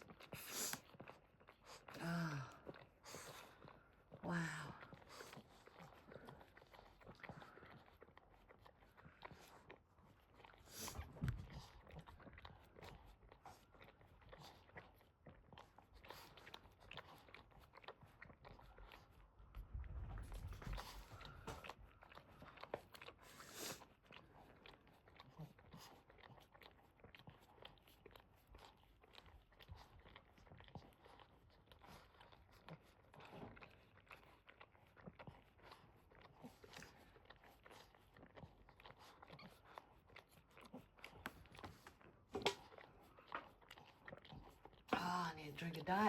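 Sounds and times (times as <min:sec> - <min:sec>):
dog licking and chewing smacks: 0:00.0 - 0:46.0.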